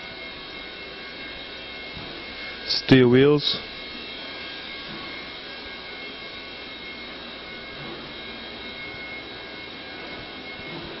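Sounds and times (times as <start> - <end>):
mechanical whir with high whine: 0.0 - 11.0.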